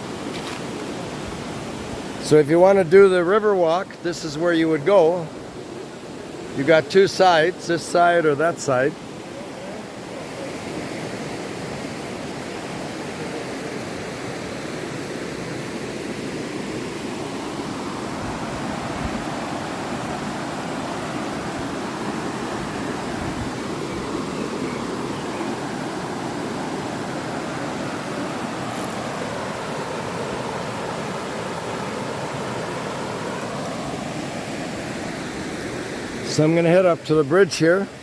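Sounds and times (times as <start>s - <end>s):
river flowing over rocks: 4.4s - 38.0s.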